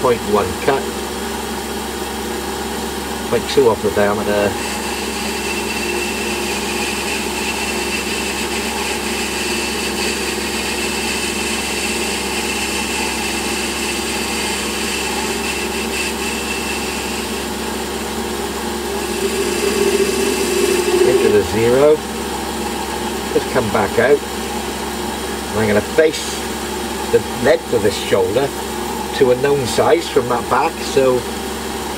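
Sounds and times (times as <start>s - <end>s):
lathe humming with thin whine: 0.2s - 31.9s.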